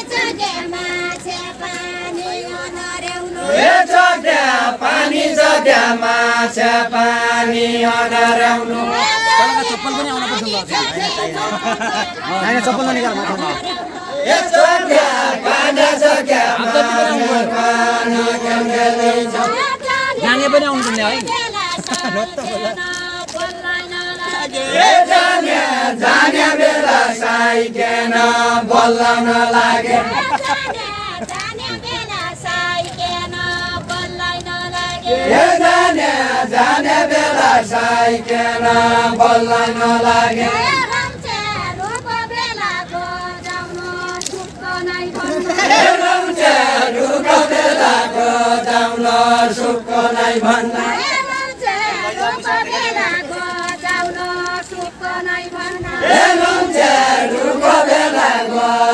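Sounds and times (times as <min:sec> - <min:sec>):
group singing in chorus: 0:00.0 - 0:58.9.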